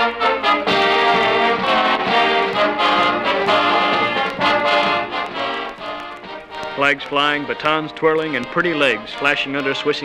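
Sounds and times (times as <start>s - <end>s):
brass band music: 0.0s - 10.0s.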